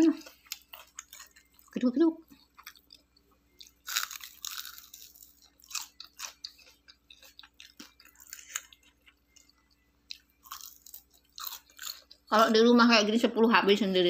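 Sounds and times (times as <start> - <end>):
person chewing crispy chicken: 0.0 - 12.4.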